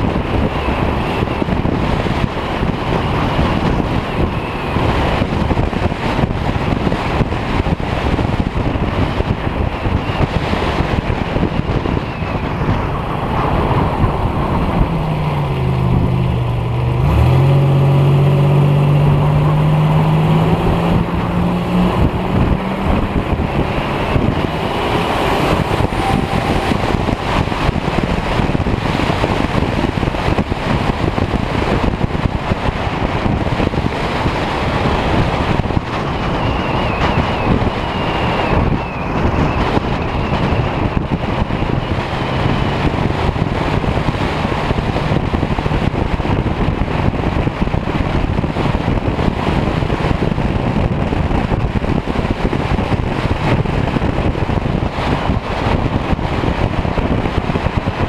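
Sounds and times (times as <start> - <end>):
car engine: 0.0 - 58.0
tyres on road: 0.0 - 58.0
wind on microphone: 0.0 - 58.0.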